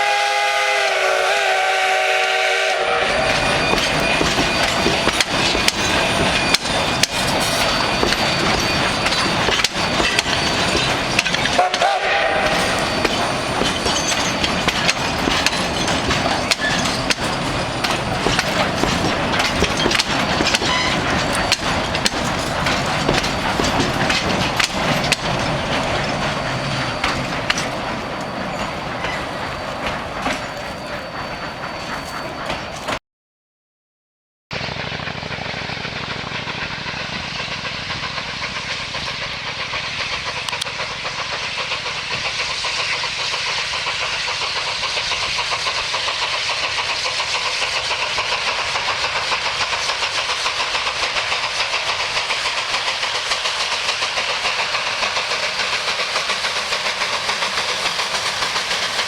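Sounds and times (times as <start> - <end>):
train cars rolling: 0.0 - 33.0, 34.6 - 59.0
wheels clicking over rails: 3.1 - 33.0, 34.6 - 59.0.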